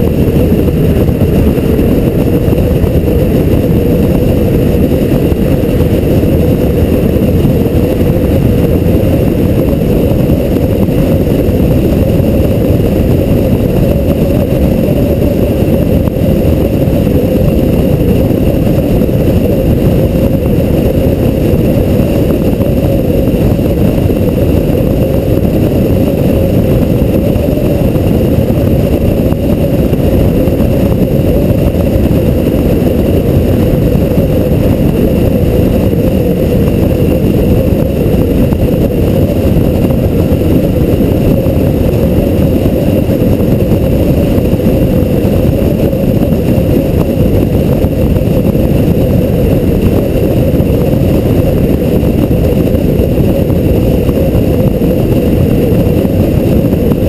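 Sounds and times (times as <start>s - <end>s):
road noise: 0.0s - 56.9s
low engine drone: 0.0s - 57.0s
wind buffeting: 0.0s - 57.0s.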